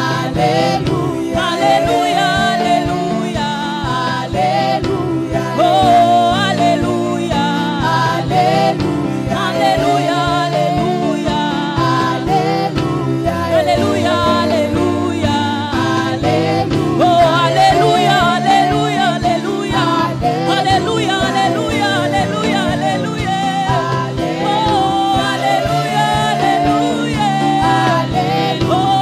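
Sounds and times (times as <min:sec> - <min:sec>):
drums: 0:00.0 - 0:29.0
group singing in harmony: 0:00.0 - 0:29.0.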